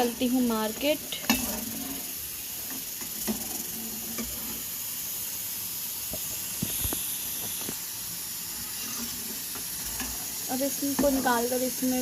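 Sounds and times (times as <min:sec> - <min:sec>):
fries sizzling in hot oil: 0:00.0 - 0:12.0.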